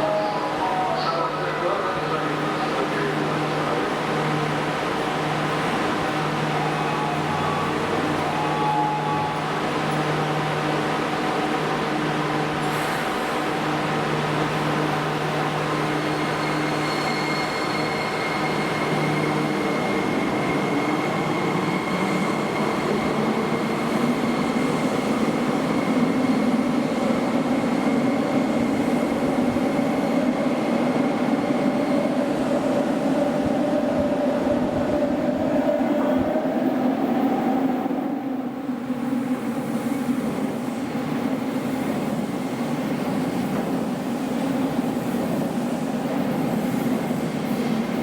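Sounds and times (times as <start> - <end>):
subway train mechanical hum: 0.0 - 48.0.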